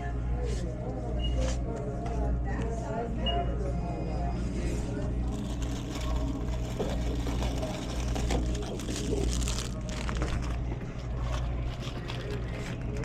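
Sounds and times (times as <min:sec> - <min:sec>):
faint background voices: 0:00.0 - 0:13.0
low electrical hum: 0:00.0 - 0:13.0.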